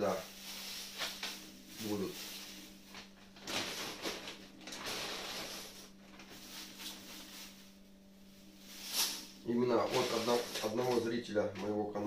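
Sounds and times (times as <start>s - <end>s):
plastic bags rustling: 0.0s - 11.8s
faint steady hum: 0.0s - 12.0s.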